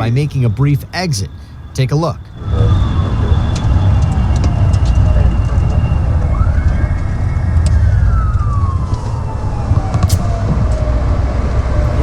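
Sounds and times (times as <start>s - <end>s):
engine and road rumble: 0.0s - 12.0s
police siren wailing: 0.0s - 12.0s.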